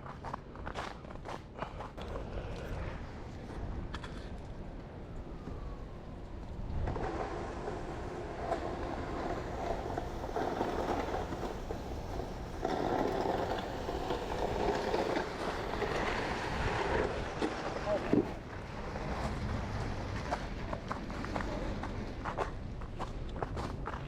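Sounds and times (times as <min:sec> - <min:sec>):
motor vehicle rumble: 0:01.8 - 0:24.0.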